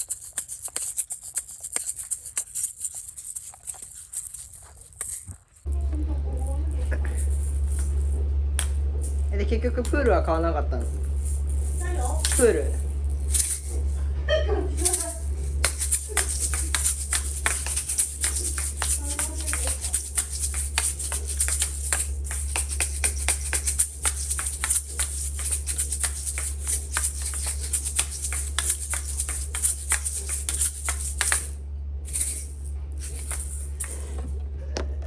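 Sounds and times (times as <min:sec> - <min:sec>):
shakers rattling and clacking: 0:00.0 - 0:34.4.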